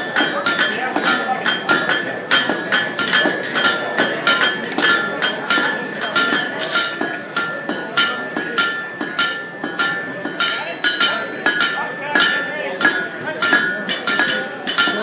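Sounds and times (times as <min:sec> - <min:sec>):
hammer striking anvil: 0:00.0 - 0:15.0.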